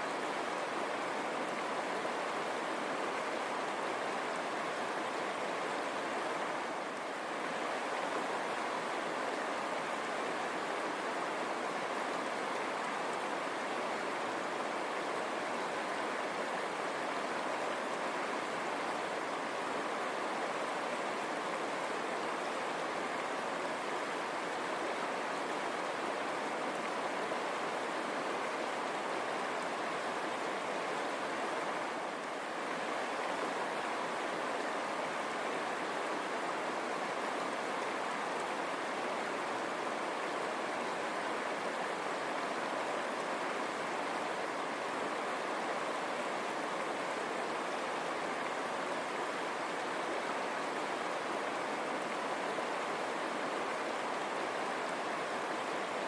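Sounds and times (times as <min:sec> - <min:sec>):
river water running over stones: 0:00.0 - 0:56.0.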